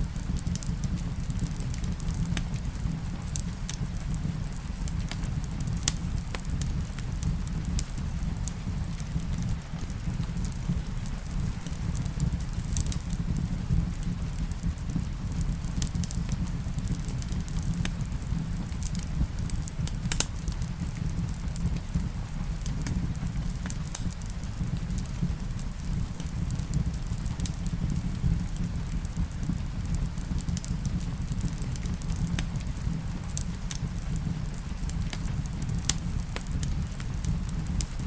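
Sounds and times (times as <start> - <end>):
rain: 0.0 - 38.0
wood fire crackling: 0.0 - 38.0.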